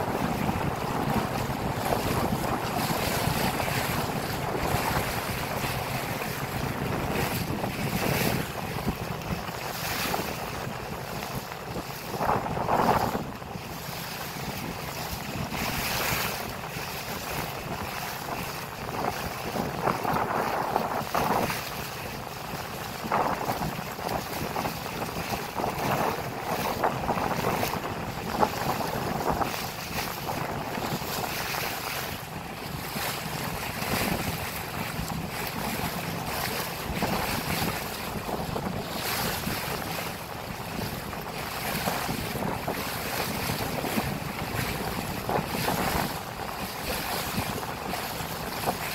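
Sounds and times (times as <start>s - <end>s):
water rushing past boat: 0.0s - 48.9s
wind buffeting microphone: 0.0s - 48.9s.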